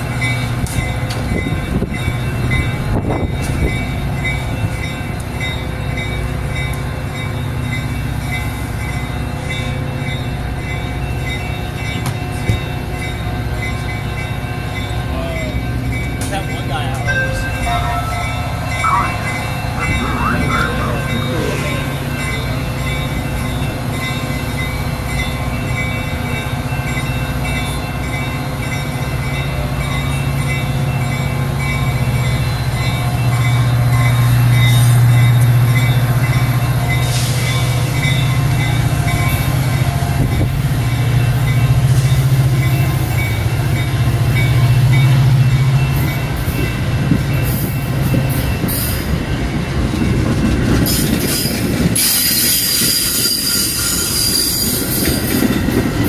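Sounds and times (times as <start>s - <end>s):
diesel train engine hum: 0.0s - 56.0s
rush of moving train: 0.0s - 56.0s.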